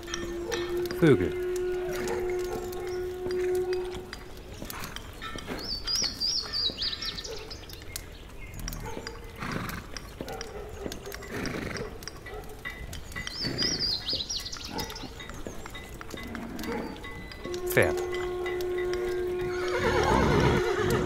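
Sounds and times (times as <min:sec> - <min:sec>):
birds chirping: 0:00.0 - 0:21.0
farmyard sounds: 0:00.0 - 0:21.0.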